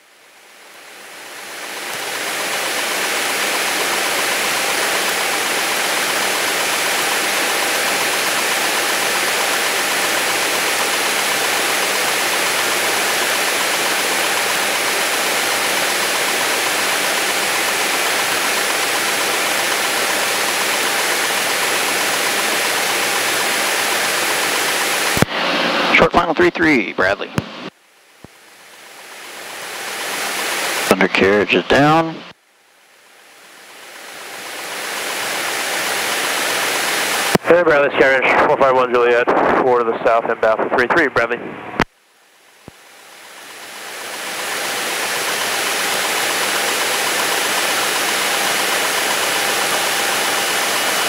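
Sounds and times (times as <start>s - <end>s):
faint steady whine: 0.0s - 51.0s.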